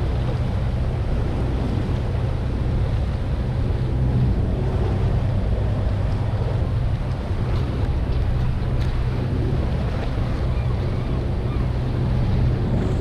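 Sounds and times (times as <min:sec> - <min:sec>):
boat engine running: 0:00.0 - 0:13.0
water rushing past hull: 0:00.0 - 0:13.0
wind buffeting microphone: 0:00.0 - 0:13.0.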